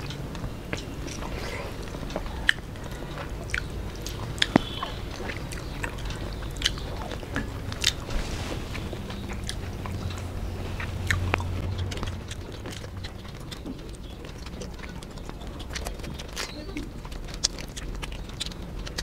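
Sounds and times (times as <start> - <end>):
food crunch: 0.0 - 19.0
low steady hum: 0.0 - 19.0
people chewing food: 0.0 - 19.0.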